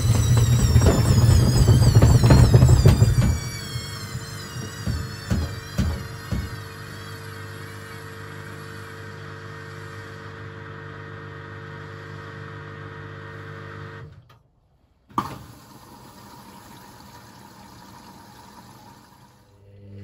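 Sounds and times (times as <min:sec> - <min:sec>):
washing machine humming: 0:00.0 - 0:14.2, 0:15.1 - 0:20.0.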